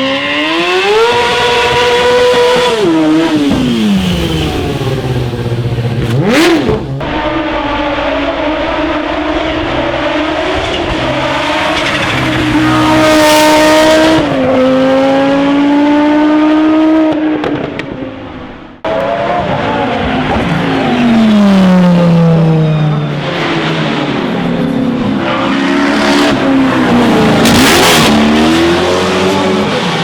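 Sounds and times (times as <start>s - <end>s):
racing car engine accelerating: 0.0s - 30.0s
racing car engine passing: 0.1s - 30.0s.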